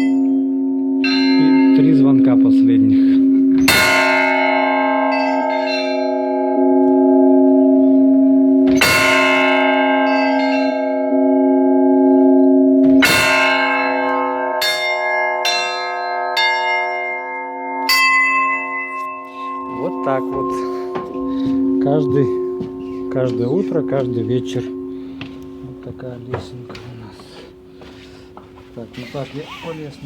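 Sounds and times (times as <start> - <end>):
small bells striking: 0.0 - 29.0
large church bell ringing: 0.0 - 30.0.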